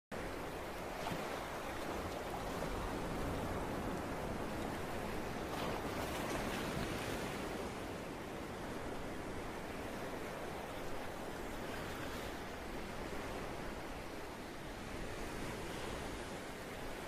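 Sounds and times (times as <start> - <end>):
ocean waves washing: 0.2 - 17.0.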